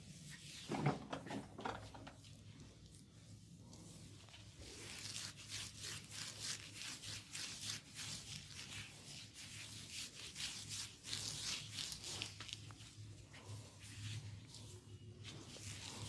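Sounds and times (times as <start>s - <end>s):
hands rubbing oiled hair: 0.0s - 0.7s, 1.9s - 16.0s.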